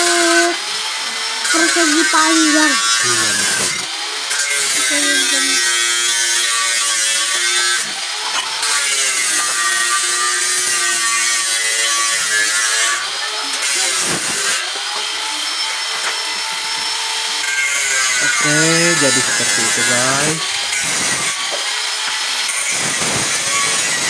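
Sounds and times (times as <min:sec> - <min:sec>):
angle grinder cutting steel: 0:00.0 - 0:24.0.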